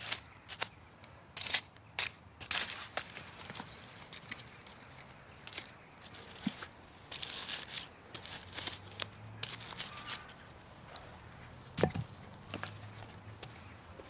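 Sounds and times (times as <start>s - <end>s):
firewood clicking and rustling: 1.4s - 13.6s.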